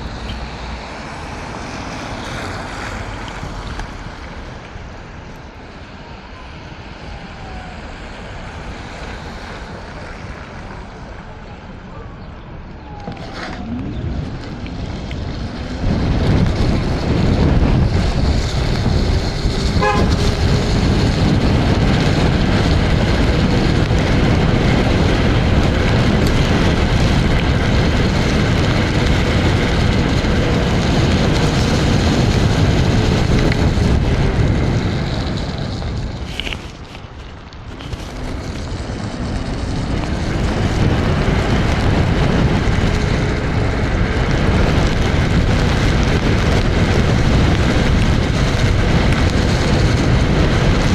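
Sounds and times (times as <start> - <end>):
tyre noise on wet road: 0.0 - 50.9
wind rushing over microphone: 0.0 - 50.9.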